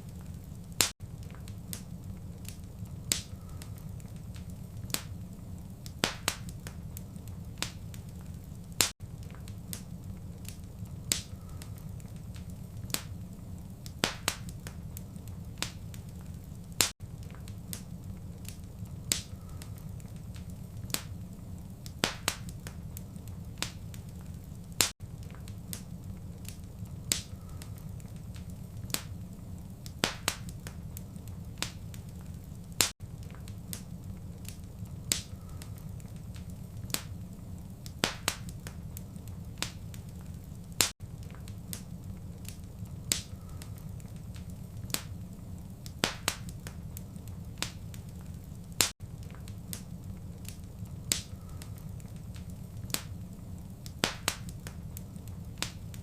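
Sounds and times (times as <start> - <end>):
low rumble of flame: 0.0 - 56.0
wood fire crackling and popping: 0.0 - 56.0.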